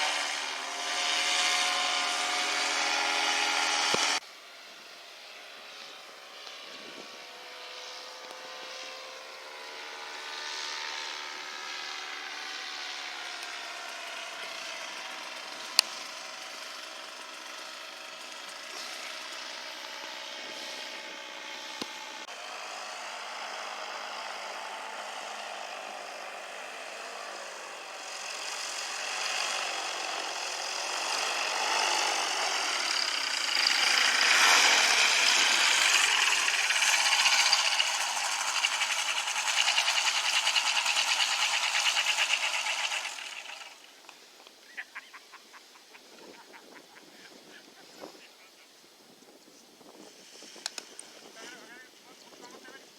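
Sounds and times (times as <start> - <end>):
propeller engine running: 0.0 - 48.3.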